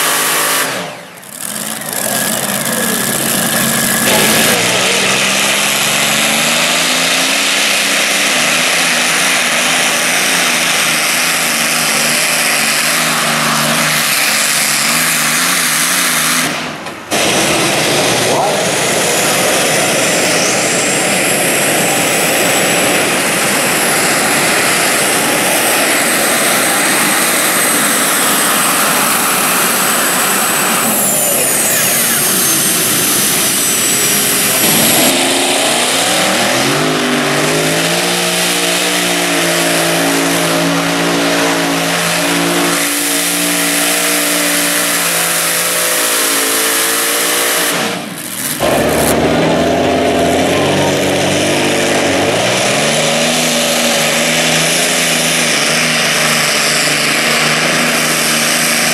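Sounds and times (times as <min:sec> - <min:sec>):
tractor engines roaring under load: 0:00.0 - 0:58.9.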